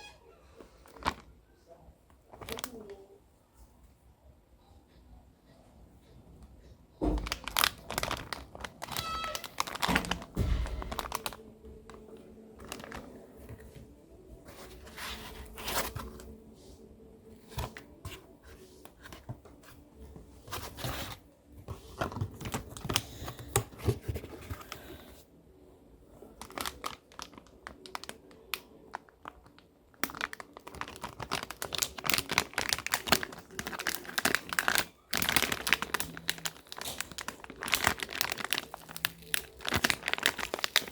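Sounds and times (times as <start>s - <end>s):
plastic and paper crinkling: 0.5s - 1.4s, 2.1s - 3.0s, 7.0s - 16.7s, 17.3s - 25.2s, 26.2s - 40.9s.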